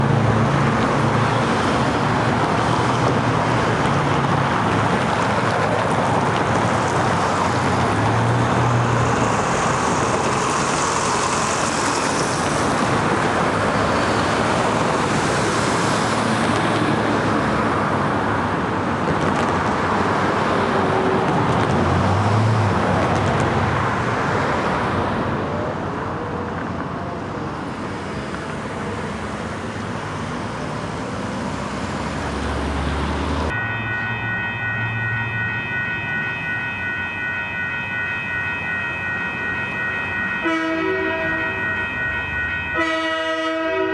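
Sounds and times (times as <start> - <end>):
cars passing on road: 0.0 - 43.9.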